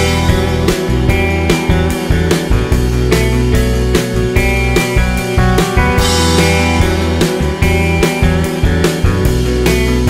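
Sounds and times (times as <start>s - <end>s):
guitar music over steady beat: 0.0s - 10.0s.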